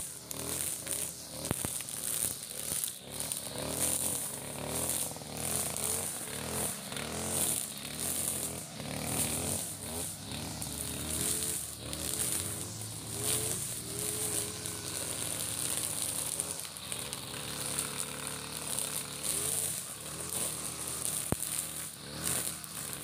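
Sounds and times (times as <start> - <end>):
brush cutter engine running: 0.0 - 23.0
trimmer line whirring: 0.0 - 23.0.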